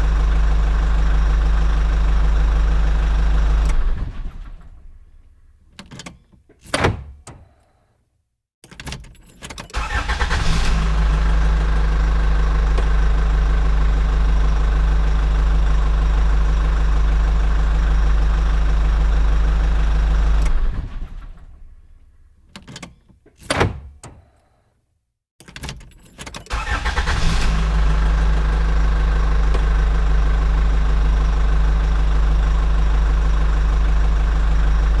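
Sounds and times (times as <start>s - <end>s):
truck engine starting and running: 0.0s - 6.6s, 8.8s - 23.0s, 25.4s - 35.0s.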